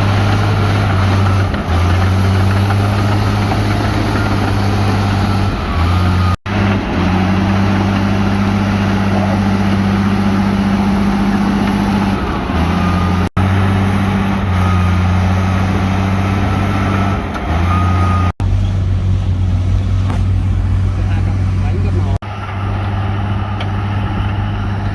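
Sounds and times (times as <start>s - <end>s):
heavy diesel engine humming: 0.0s - 24.9s.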